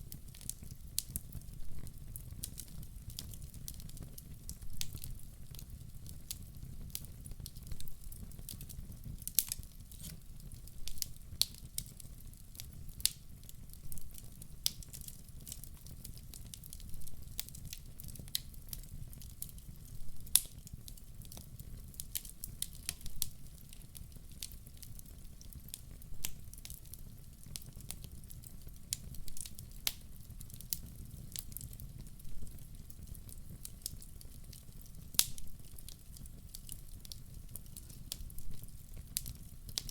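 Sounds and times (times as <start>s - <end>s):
burning logs crackling and popping: 0.0s - 39.9s
low rumble of flame: 0.0s - 39.9s.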